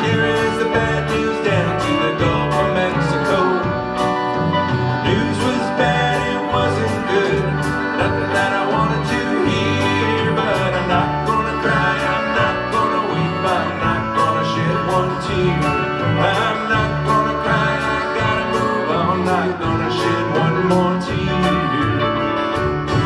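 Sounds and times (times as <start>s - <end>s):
accordion: 0.0s - 23.0s
acoustic guitar: 0.0s - 23.0s
electric guitar: 0.0s - 23.0s
steady drum beat: 0.0s - 23.0s.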